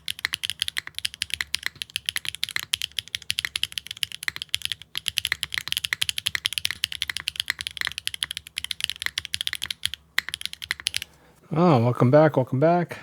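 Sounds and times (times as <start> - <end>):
mechanical keyboard typing: 0.0 - 11.1.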